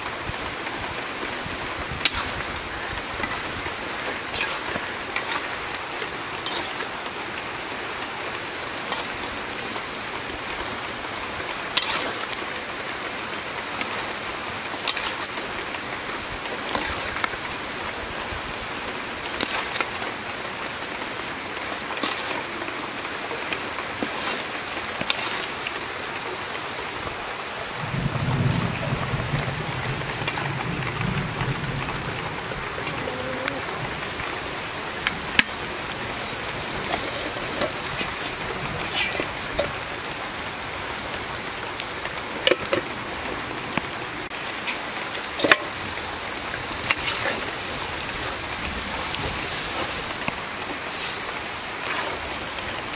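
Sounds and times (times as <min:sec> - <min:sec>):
curry boiling and sizzling in a wok: 0:00.0 - 0:52.9.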